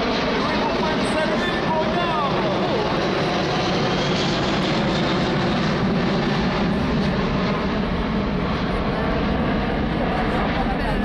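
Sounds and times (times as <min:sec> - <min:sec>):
airliner jet noise flying past: 0:00.0 - 0:11.0.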